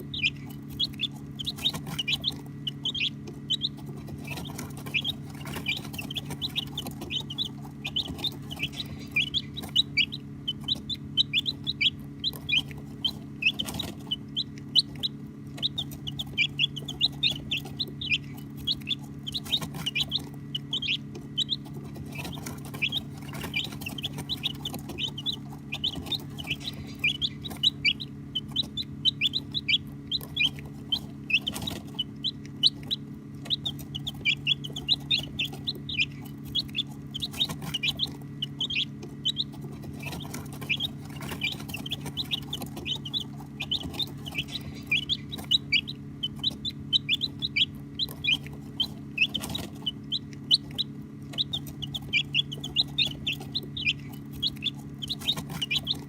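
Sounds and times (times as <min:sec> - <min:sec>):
baby chicks peeping: 0:00.0 - 0:56.0
steady low hum: 0:00.0 - 0:56.0.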